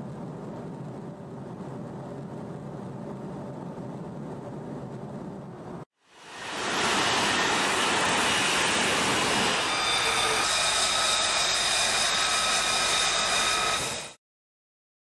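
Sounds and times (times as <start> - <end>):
jet engine roaring: 0.0 - 13.9
high turbine whine: 0.0 - 14.2.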